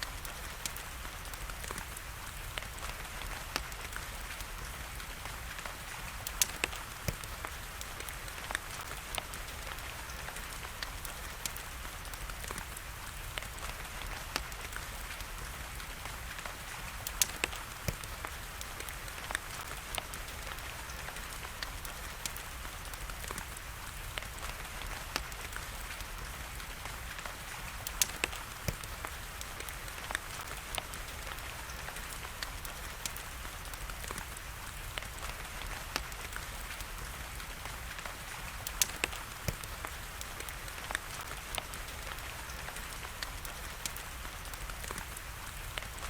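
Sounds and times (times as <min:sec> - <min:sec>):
rain hiss: 0:00.0 - 0:46.0
wood fire crackling and popping: 0:00.0 - 0:46.0.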